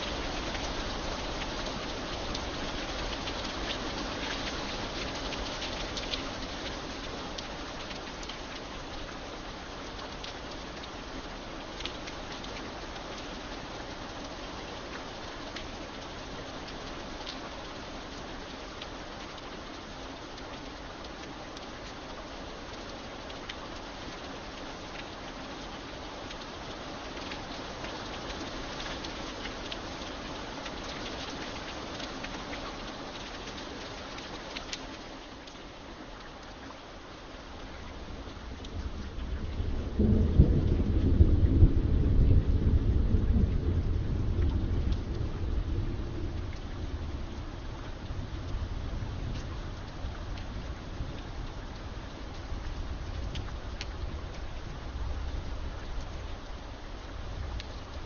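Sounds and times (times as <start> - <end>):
raindrops ticking: 0.0 - 58.0
steady rain hissing: 0.0 - 58.0.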